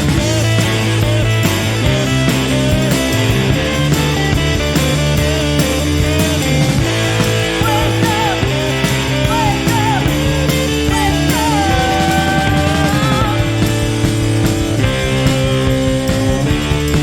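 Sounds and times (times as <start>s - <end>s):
bass and drums: 0.0s - 17.0s.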